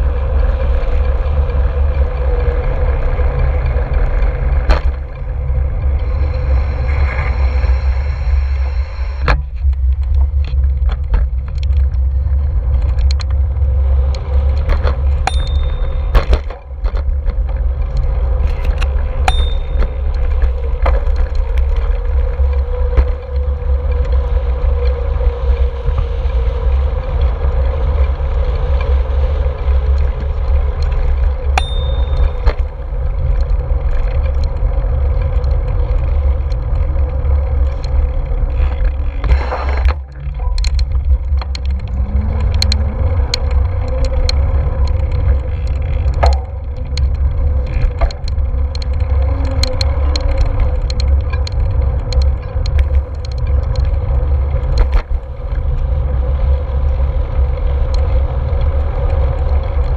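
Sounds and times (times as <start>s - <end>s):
bike clicks and rattles: 0.0s - 8.3s, 9.2s - 59.9s
tyre and road noise: 0.0s - 59.9s
wind buffeting microphone: 0.0s - 59.9s.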